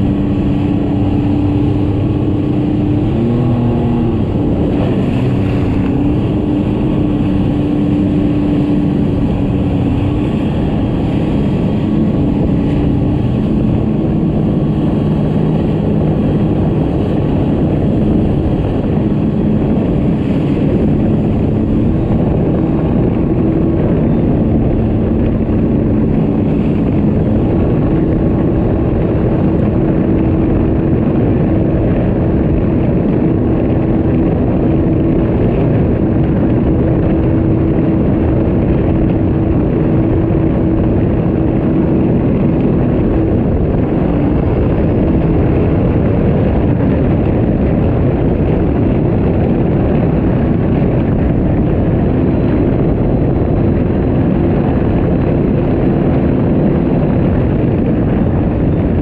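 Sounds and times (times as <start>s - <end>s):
watercraft engine drone: 0.0s - 59.0s
wind and water rush: 0.0s - 59.0s.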